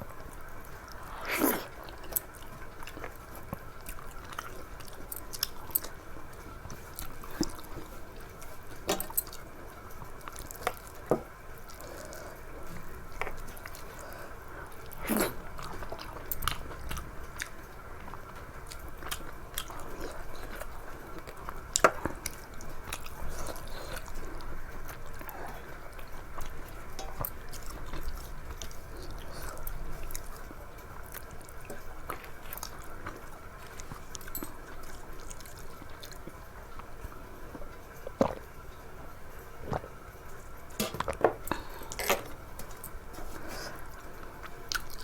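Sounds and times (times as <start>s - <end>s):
person chewing and eating: 0.0s - 45.0s.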